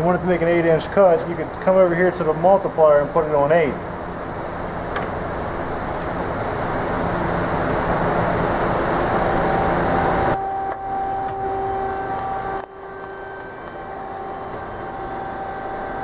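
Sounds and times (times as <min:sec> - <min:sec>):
loud machinery running: 0:00.0 - 0:16.0
steady hum with a whine: 0:00.0 - 0:16.0.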